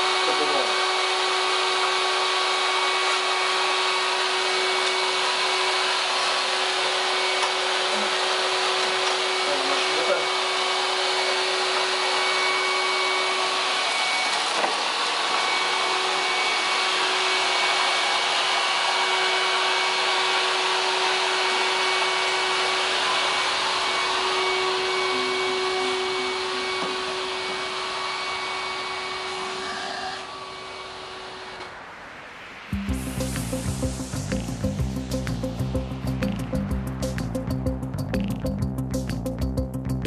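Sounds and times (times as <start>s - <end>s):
shop vacuum running: 0.0s - 37.4s.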